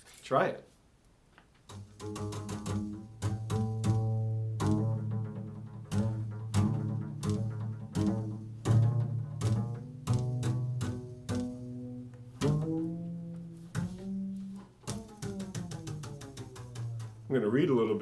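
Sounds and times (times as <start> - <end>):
low plucked string melody: 1.7 - 17.4.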